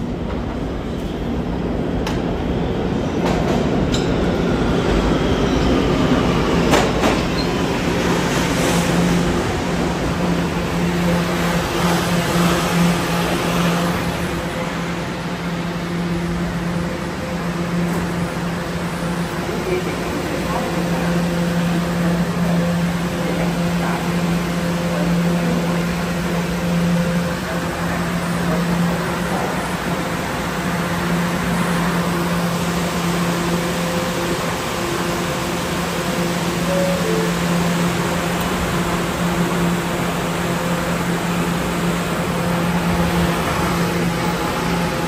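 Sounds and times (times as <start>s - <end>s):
subway car humming: 0.0s - 45.0s.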